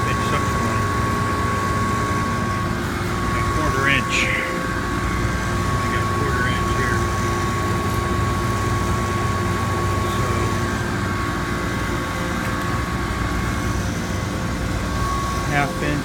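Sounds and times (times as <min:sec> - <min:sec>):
faint steady tones: 0:00.0 - 0:16.0
high whine: 0:00.0 - 0:16.0
refrigeration machinery drone: 0:00.0 - 0:16.0.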